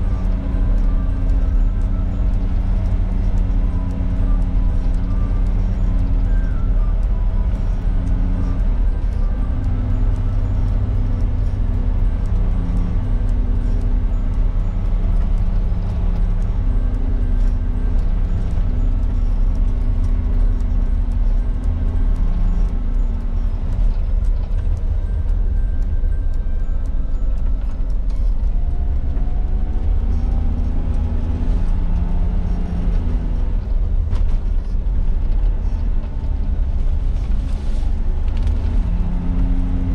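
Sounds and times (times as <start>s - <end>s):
car engine and road drone: 0.0s - 39.9s.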